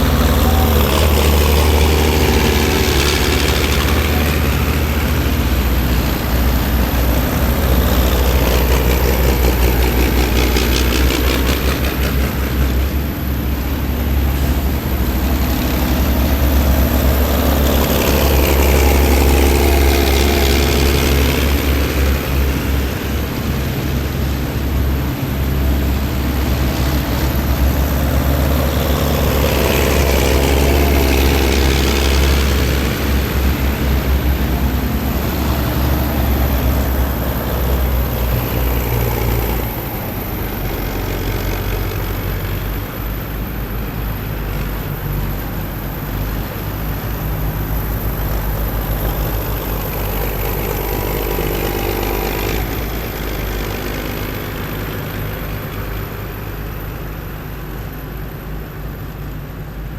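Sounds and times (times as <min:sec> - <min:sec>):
heavy military vehicles driving past: 0:00.0 - 0:59.9.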